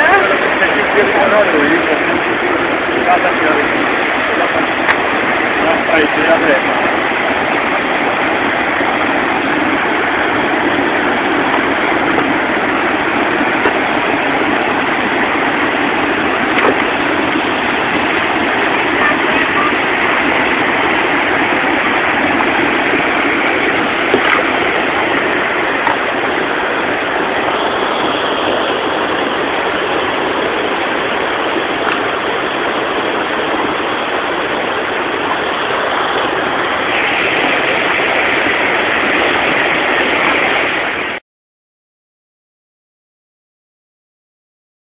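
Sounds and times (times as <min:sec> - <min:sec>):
water rushing over weir: 0:00.0 - 0:41.2.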